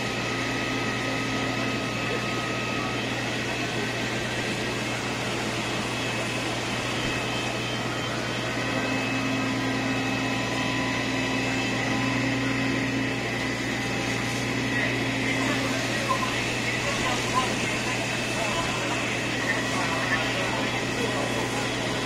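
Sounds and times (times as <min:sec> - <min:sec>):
pump mechanical drone with whine: 0:00.0 - 0:22.0.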